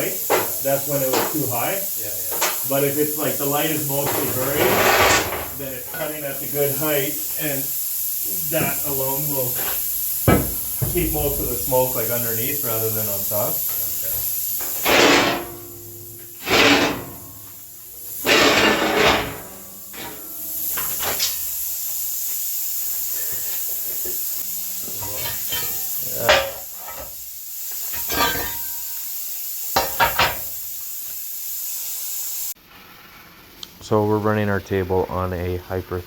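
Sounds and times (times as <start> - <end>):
plasma torch cutting steel: 0.0 - 32.6.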